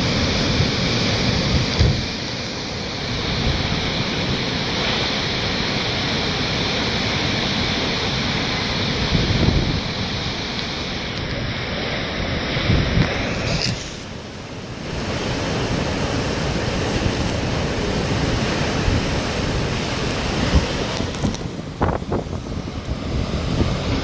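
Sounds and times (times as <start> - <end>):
hurricane wind: 0.0 - 24.0
rain: 0.0 - 24.0.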